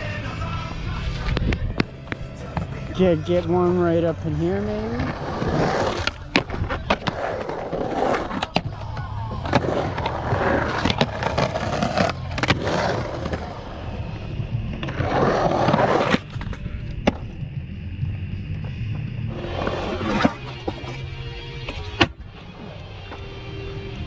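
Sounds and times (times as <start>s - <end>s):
skateboard rolling on concrete: 0.0s - 24.0s.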